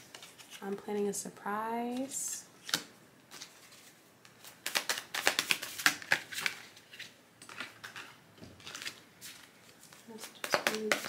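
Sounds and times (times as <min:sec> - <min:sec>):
cards being shuffled: 0:00.0 - 0:00.8, 0:01.9 - 0:11.0.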